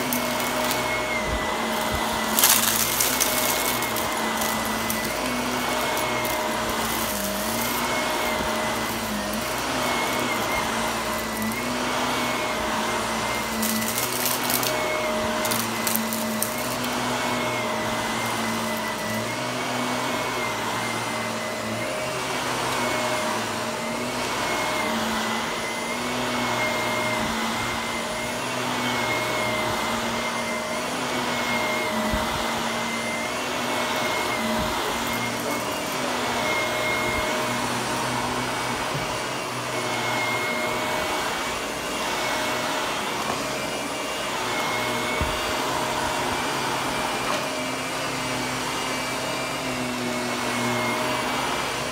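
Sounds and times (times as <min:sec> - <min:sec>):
vacuum cleaner running on carpet: 0:00.0 - 0:51.9.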